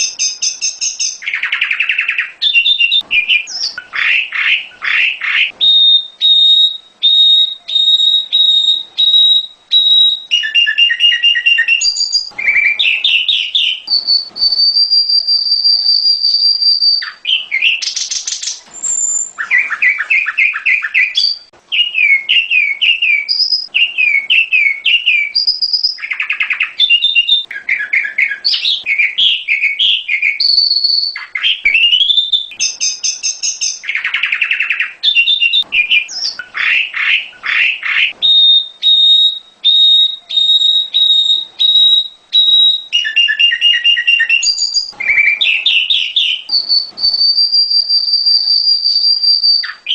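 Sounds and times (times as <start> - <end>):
songbird whistling and chirping: 0.0 - 49.9.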